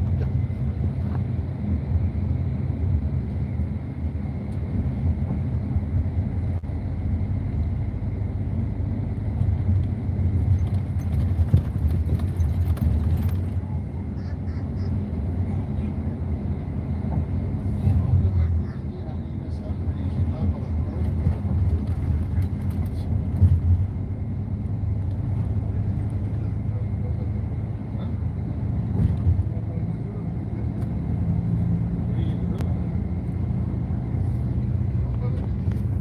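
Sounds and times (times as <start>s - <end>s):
coach engine and road rumble: 0.0s - 36.0s.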